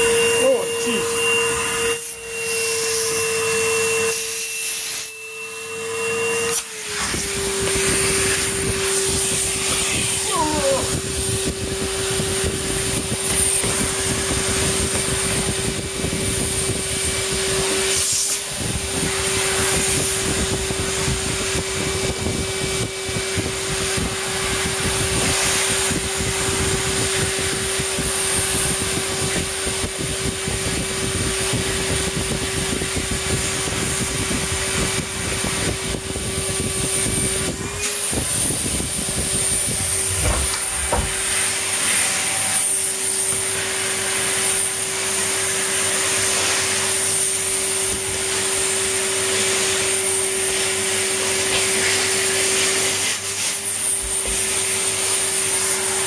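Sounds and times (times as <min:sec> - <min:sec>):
vacuum cleaner motor hum: 0:00.0 - 0:56.0.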